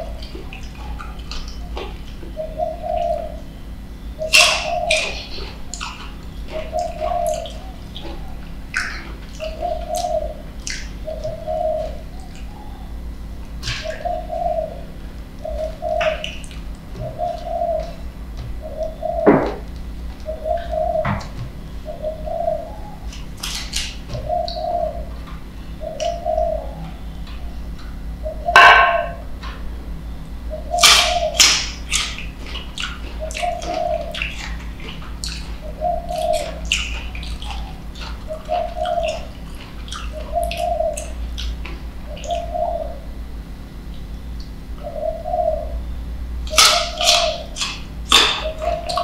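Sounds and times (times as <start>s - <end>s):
dove cooing: 0.0s - 49.0s.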